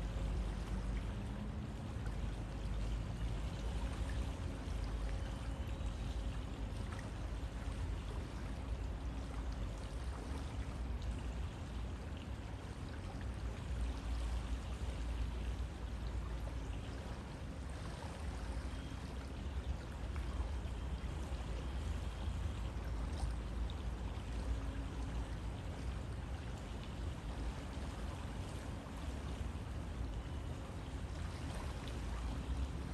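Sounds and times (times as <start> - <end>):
river water flowing: 0.0 - 32.9.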